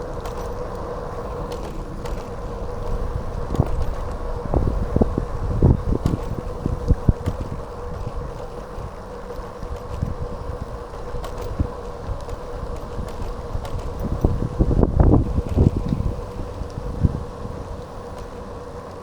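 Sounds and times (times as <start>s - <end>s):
faint steady whine: 0.0s - 19.0s
wind buffeting microphone: 0.0s - 19.0s.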